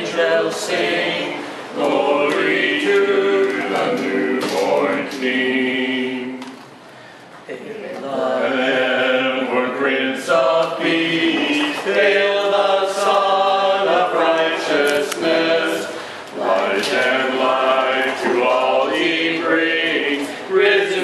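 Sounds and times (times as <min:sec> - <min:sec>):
group singing a carol unaccompanied: 0:00.0 - 0:06.6, 0:08.0 - 0:21.0.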